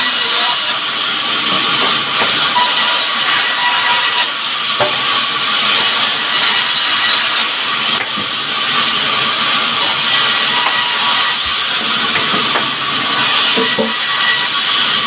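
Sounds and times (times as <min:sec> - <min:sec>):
band saw cutting log: 0:00.0 - 0:15.0.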